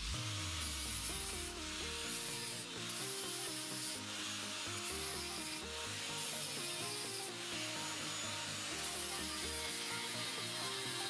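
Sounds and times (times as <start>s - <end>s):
angle grinder grinding metal: 0.0s - 11.0s
electronic music: 0.0s - 11.0s.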